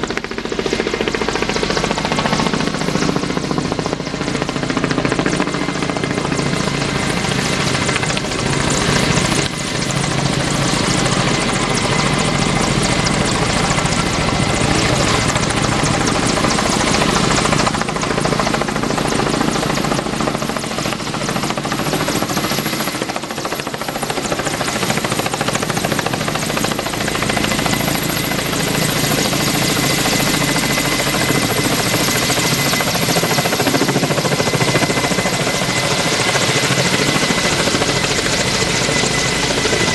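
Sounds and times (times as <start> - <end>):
helicopter engine whine: 0.0 - 39.9
helicopter rotor noise: 0.0 - 39.9.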